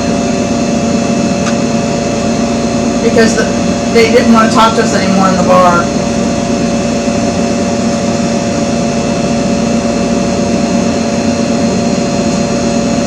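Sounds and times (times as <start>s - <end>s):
machine whir and hum: 0.0s - 13.0s.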